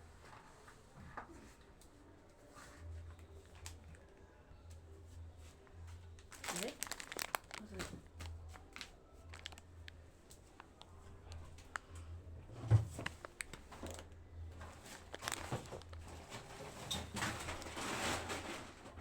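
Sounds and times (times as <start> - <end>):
groceries being handled: 0.0 - 19.0.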